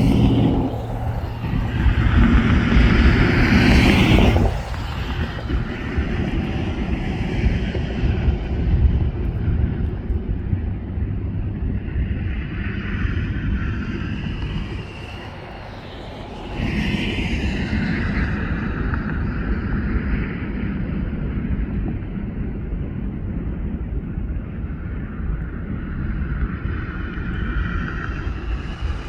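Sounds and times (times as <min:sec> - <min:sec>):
jet engines whine and rumble: 0:00.0 - 0:29.0.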